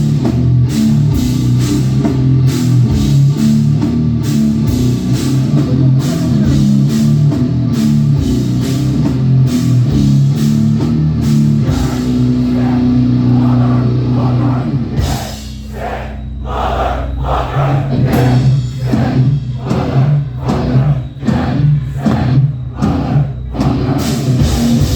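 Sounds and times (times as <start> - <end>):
punk band playing live: 0.0 - 24.9.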